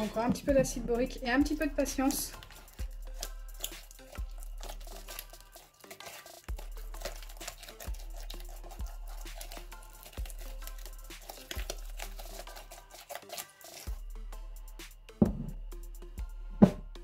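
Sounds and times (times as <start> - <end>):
background music with deep thump: 0.0 - 12.9, 13.7 - 17.0
slime stirred with spatula: 0.0 - 14.2.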